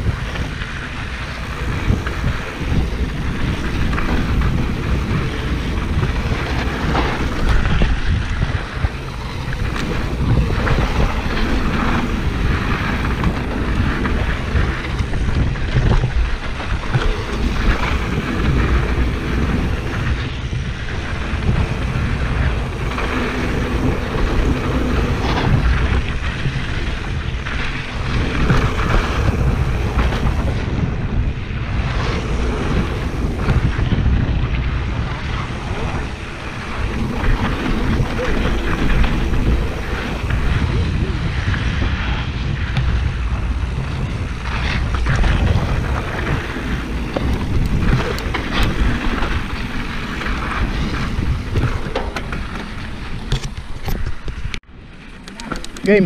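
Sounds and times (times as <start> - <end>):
bike rattling over bumps: 0.0 - 56.0
tyres rumbling on dirt: 0.0 - 56.0
wind buffeting microphone: 0.0 - 56.0.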